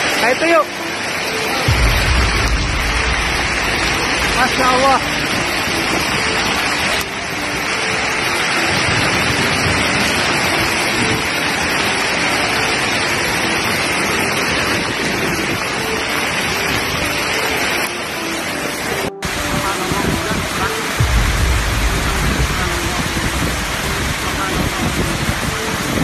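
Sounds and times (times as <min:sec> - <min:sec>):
hail and heavy rain on ground: 0:00.0 - 0:26.0.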